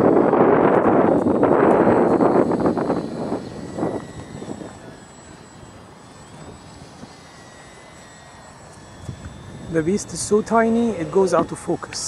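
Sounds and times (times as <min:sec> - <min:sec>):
wind buffeting microphone: 0:00.0 - 0:07.9, 0:08.7 - 0:12.0
small electric motor whine: 0:00.0 - 0:12.0.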